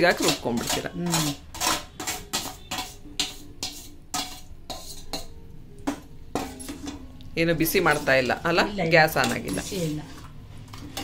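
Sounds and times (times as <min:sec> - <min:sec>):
spoon scraping steel bowl: 0:00.0 - 0:11.0.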